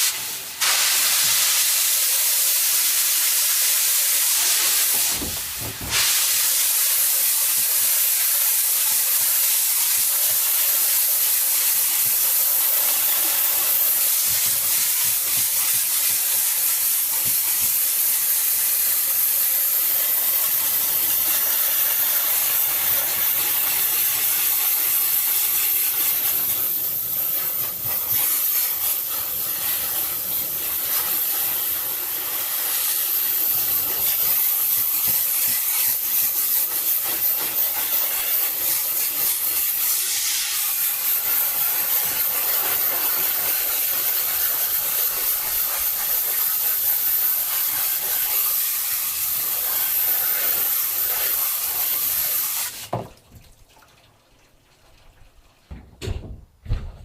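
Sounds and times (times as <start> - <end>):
spray nozzle hissing: 0.0 - 52.9.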